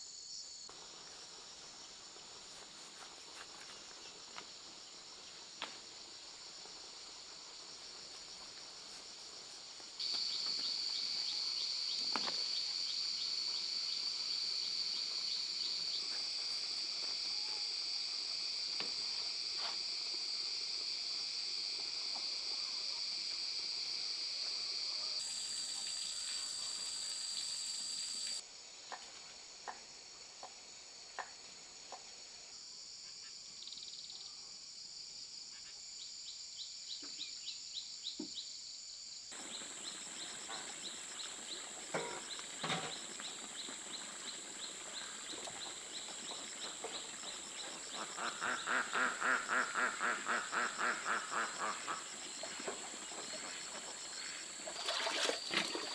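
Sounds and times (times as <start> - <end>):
insects chirring: 0.0 - 28.4, 35.6 - 55.9.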